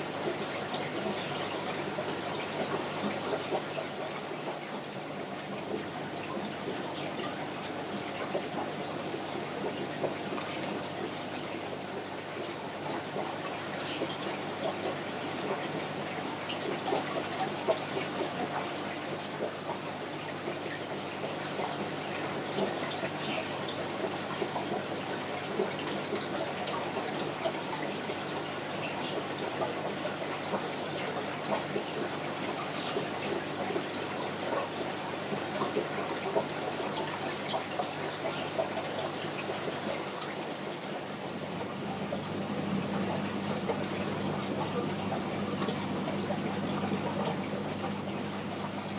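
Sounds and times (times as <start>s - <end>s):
aquarium water trickling and bubbling: 0.0s - 48.9s
water drips and splashes: 0.0s - 48.9s.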